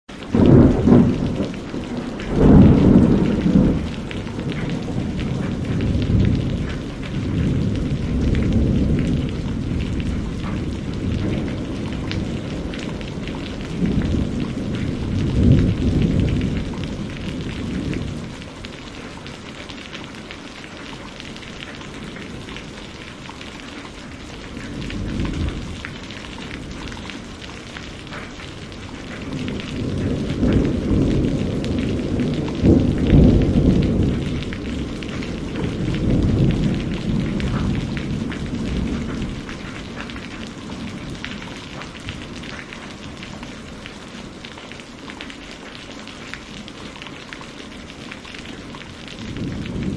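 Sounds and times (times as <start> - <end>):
steady rain: 0.0 - 49.9
rolling thunder: 0.2 - 19.4, 24.1 - 44.5, 47.8 - 49.9.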